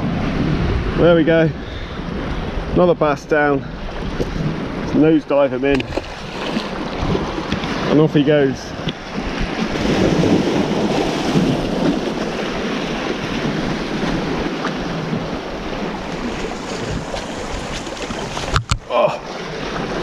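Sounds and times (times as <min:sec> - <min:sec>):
waves washing over rocks: 0:00.0 - 0:20.0
wind buffeting microphone: 0:00.0 - 0:20.0.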